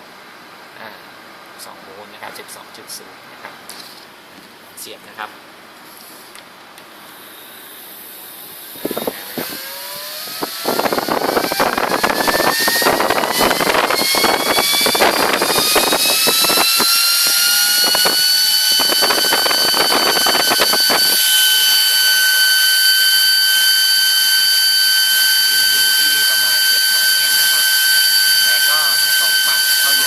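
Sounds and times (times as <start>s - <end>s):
fan whine and air rush: 0.0s - 30.0s.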